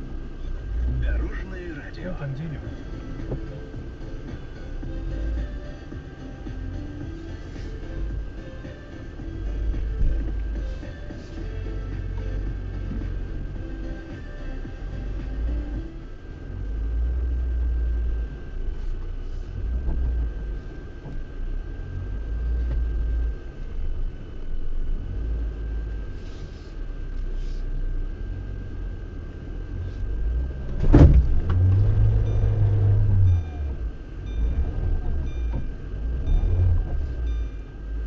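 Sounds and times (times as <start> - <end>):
engine and drivetrain rumble: 0.0 - 38.0.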